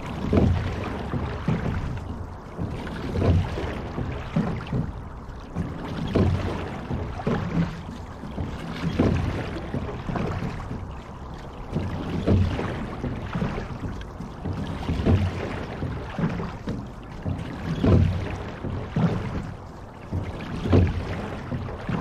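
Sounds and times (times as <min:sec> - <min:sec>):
water rushing along boat hull: 0:00.0 - 0:22.0.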